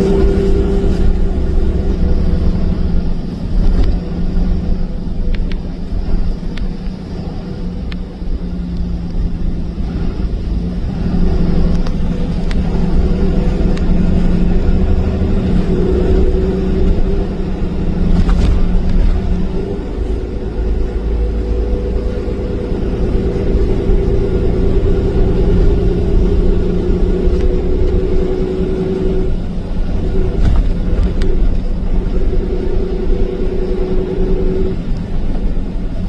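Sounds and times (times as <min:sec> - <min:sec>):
road rumble: 0:00.0 - 0:36.0
truck engine drone: 0:00.0 - 0:36.0.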